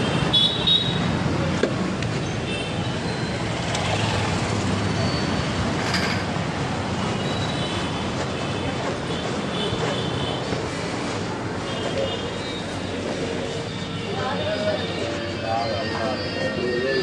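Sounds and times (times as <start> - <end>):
road noise: 0.0 - 17.0
wind: 0.0 - 17.0.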